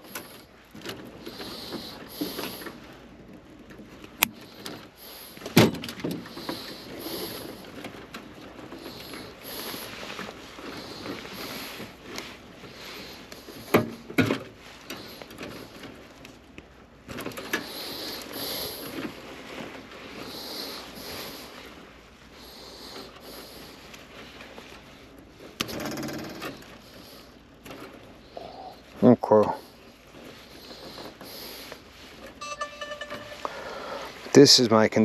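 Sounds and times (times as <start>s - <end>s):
rustling and handling noise: 0.0s - 25.8s, 29.7s - 34.4s.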